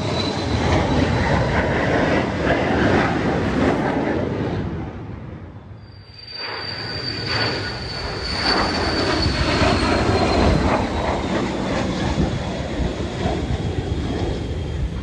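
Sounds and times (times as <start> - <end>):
jet engine whine: 0.0 - 15.0
jet roaring overhead: 0.0 - 15.0.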